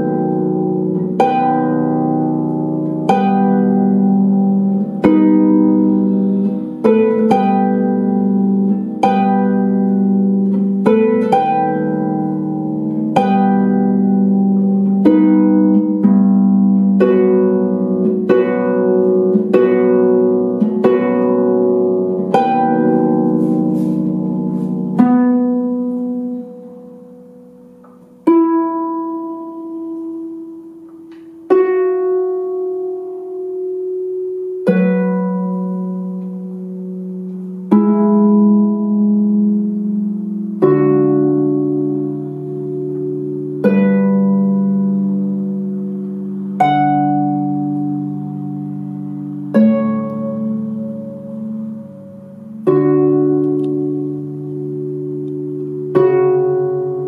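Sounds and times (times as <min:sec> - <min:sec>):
harp playing slow chords: 0:00.0 - 0:57.0.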